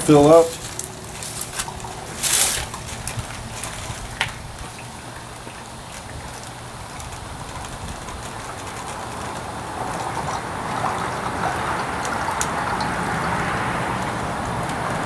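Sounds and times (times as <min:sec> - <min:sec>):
water rushing from garden hose: 0:00.0 - 0:15.0.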